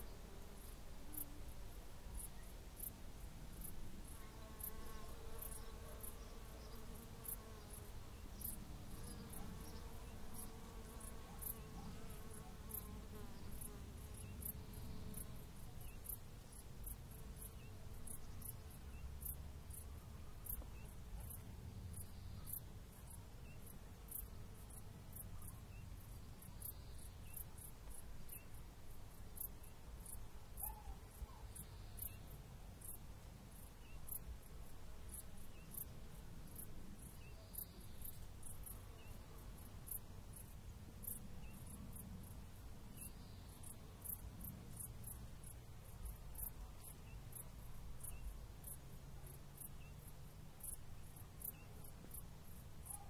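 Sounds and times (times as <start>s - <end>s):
faint high-pitched ticks or chirps: 0.0s - 53.0s.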